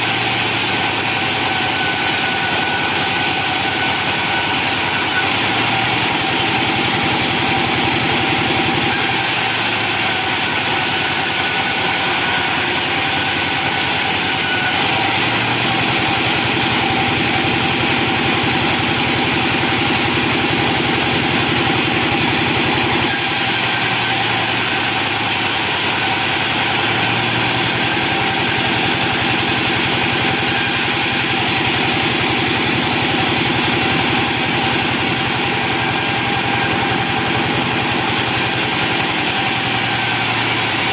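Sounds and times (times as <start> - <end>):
sawmill engine drone: 0.0 - 40.9.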